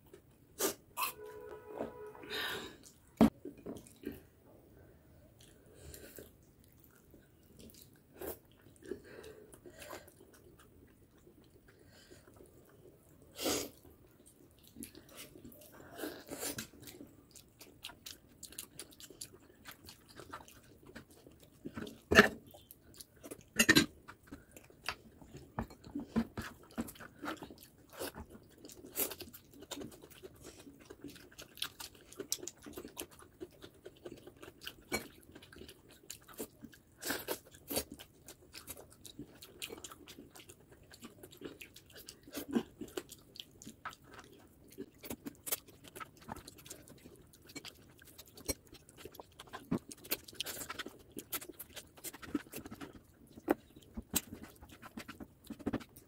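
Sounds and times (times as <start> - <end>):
chewing and biting food: 5.4 - 56.0.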